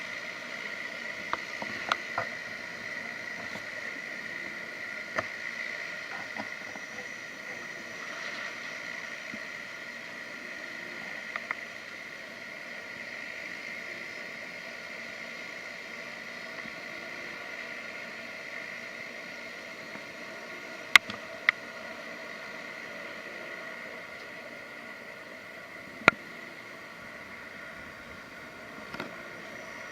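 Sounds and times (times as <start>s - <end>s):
propeller engines whining: 0.0s - 29.9s.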